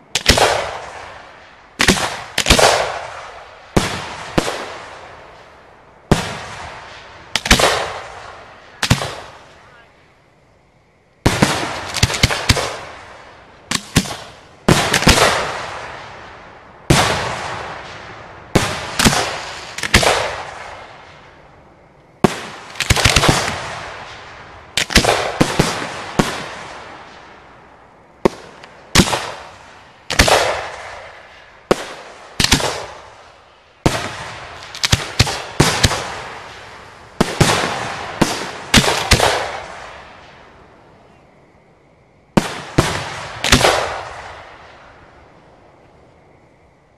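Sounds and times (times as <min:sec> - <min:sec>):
fireworks bursting with bangs: 0:00.0 - 0:09.9, 0:11.2 - 0:41.1, 0:42.3 - 0:45.2.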